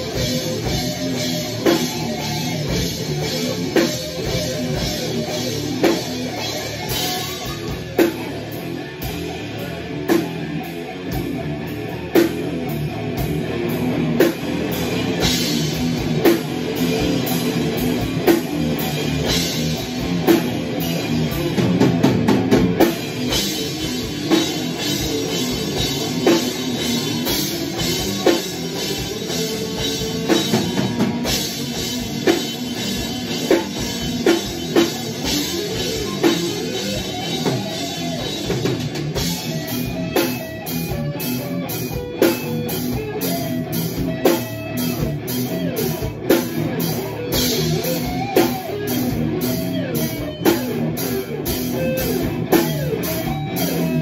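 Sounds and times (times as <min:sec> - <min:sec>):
drum and cymbal hits: 0:00.0 - 0:54.0
metal band playing: 0:00.0 - 0:54.0.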